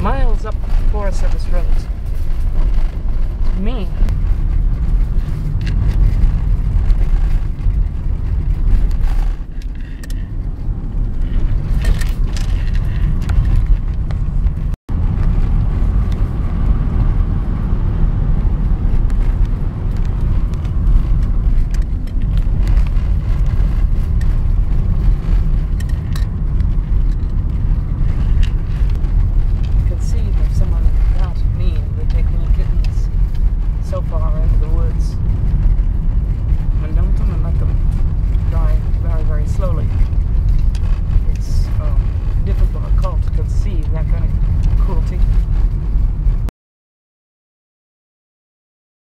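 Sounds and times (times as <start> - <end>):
vehicle rumbling on gravel road: 0.0 - 46.5.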